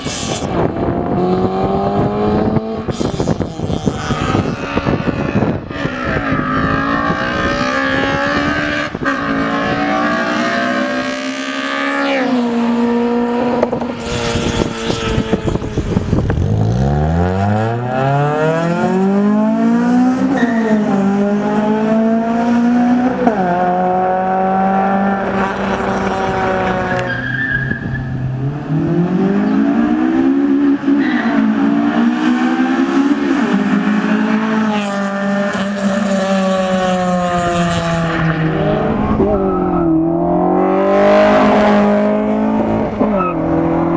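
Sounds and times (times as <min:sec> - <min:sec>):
car engine accelerating hard: 0:00.0 - 0:43.9.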